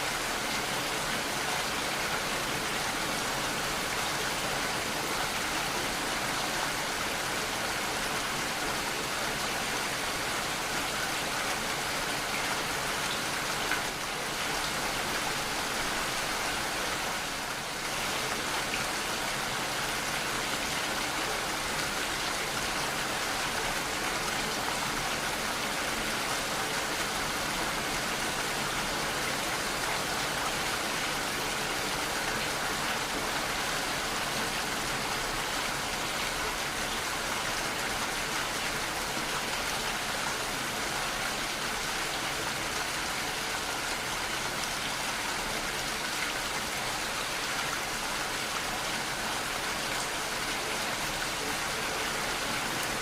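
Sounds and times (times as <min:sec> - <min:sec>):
heavy rainfall: 0:00.0 - 0:53.0.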